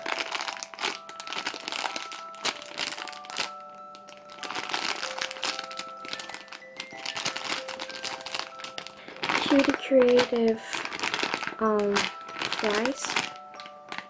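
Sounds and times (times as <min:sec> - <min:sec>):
background music with held notes: 0:00.0 - 0:14.0
plastic packaging crinkling: 0:00.0 - 0:14.0.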